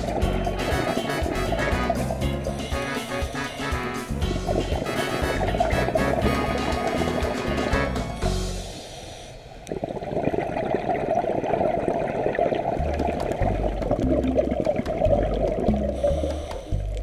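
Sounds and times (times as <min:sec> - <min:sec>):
underwater bubbling and gurgling: 0:00.0 - 0:17.0.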